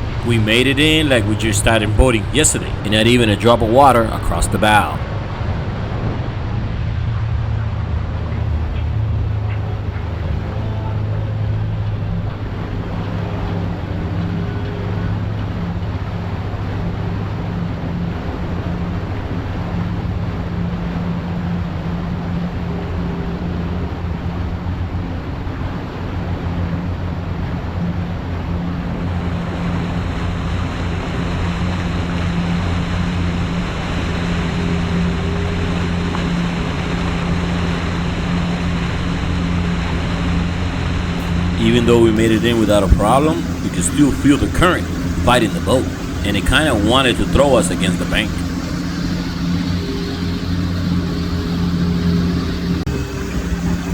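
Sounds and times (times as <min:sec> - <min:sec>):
boat motor running: 0:00.0 - 0:53.9
rush of wind and water: 0:00.0 - 0:53.9.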